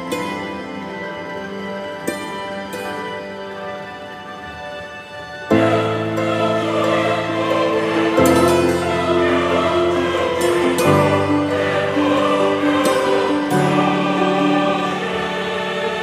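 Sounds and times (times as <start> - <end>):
slow music with choir voices: 0.0 - 16.0.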